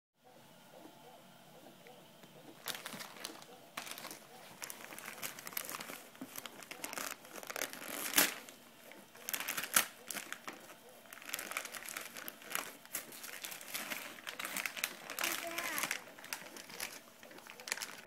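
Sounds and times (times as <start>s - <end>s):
wrapping paper crinkling and tearing: 2.5s - 18.0s.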